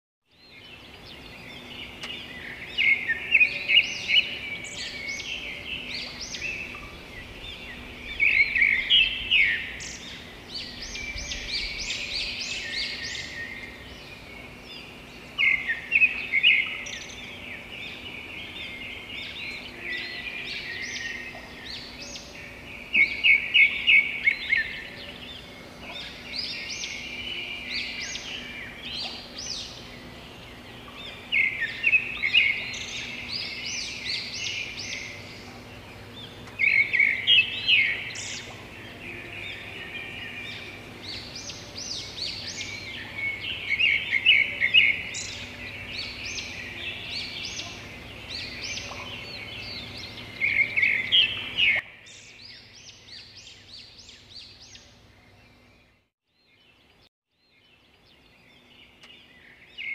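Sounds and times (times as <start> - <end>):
songbirds chirping and trilling: 0.2 - 59.9.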